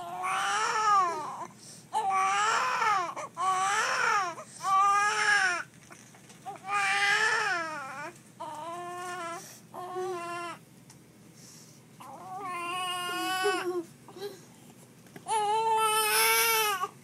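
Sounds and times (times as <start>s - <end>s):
baby crying: 0.0s - 5.7s, 6.6s - 10.6s, 12.0s - 14.4s, 15.3s - 17.0s.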